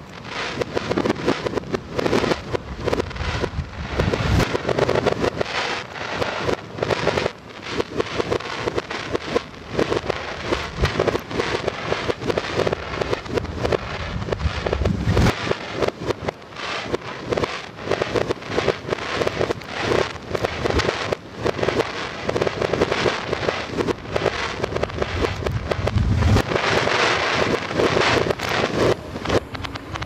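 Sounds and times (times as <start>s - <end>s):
reversed fireworks crackling and bangs: 0.0s - 30.0s.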